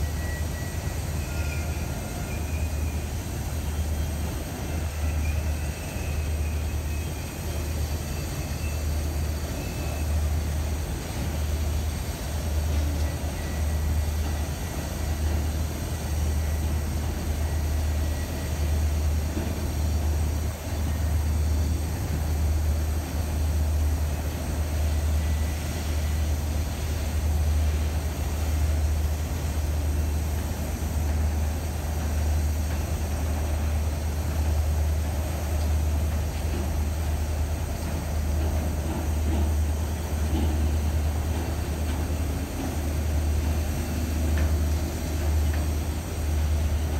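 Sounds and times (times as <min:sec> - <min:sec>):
steel wheels rumbling on rail: 0:00.0 - 0:46.9.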